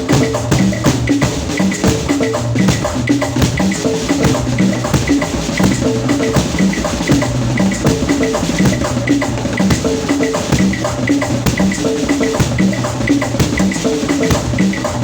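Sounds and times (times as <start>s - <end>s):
rapid drum hits: 0.0s - 15.0s.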